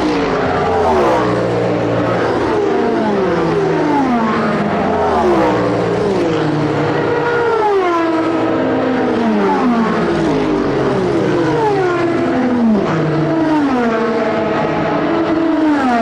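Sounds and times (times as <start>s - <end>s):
race car engines downshifting: 0.0s - 16.0s.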